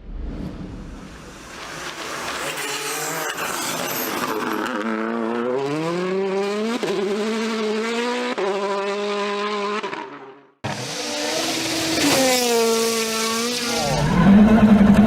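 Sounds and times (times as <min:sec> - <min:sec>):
rally car engine accelerating: 0:01.8 - 0:15.0
rally car engine at high revs: 0:01.8 - 0:15.0.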